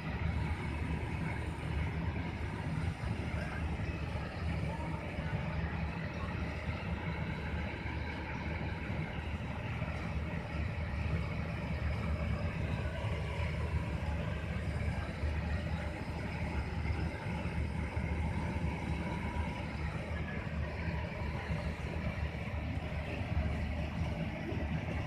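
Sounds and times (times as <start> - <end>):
ship engines rumbling: 0.0 - 25.0.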